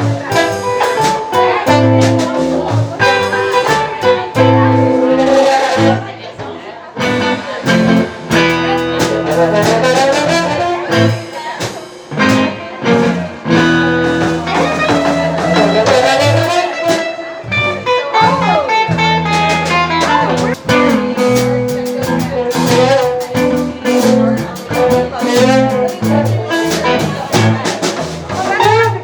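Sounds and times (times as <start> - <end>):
bass line: 0.0 - 29.0
drums: 0.0 - 29.0
guitar with bending notes: 0.0 - 29.0.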